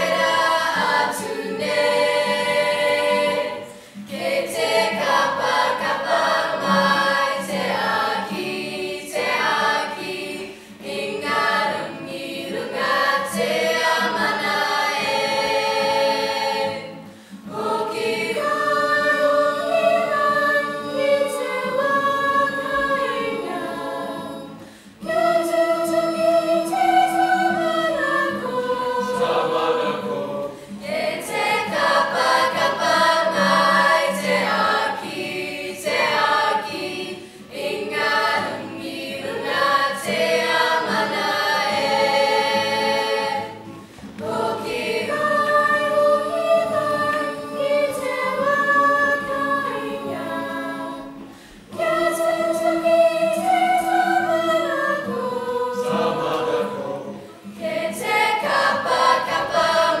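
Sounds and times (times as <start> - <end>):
choir singing in harmony: 0.0 - 60.0.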